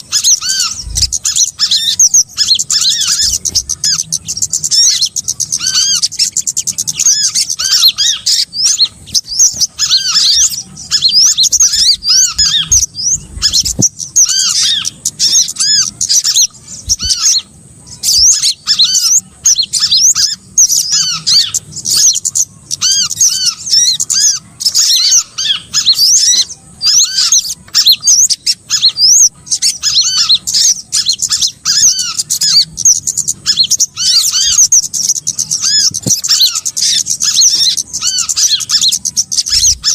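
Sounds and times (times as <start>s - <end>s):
songbirds chirping and twittering: 0.0s - 39.9s
whistled bird notes: 0.0s - 39.9s.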